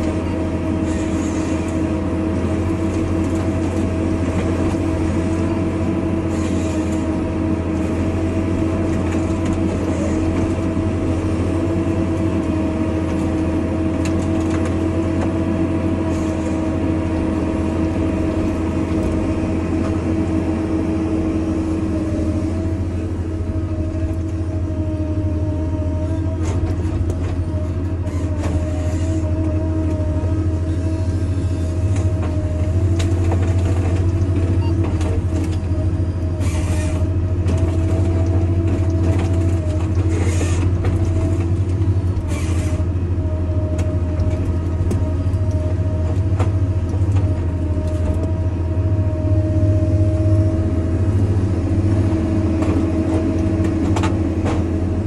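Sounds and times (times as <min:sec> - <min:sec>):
forestry harvester engine drone: 0:00.0 - 0:55.0.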